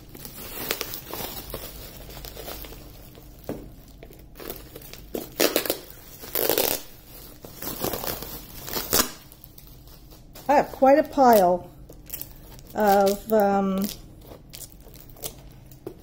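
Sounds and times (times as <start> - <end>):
bubble wrap crinkling: 0.0 - 16.0.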